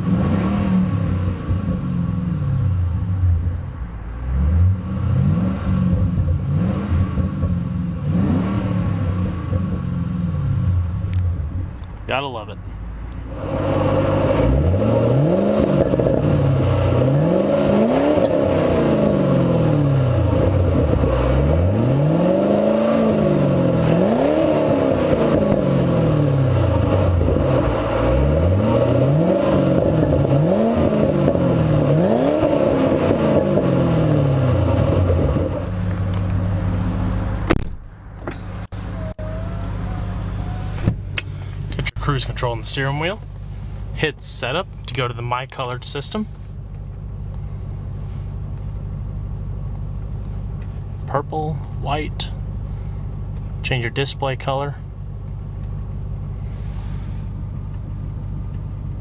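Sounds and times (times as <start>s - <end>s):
car engine idling: 0.0s - 59.0s
car engine revving: 0.0s - 59.0s.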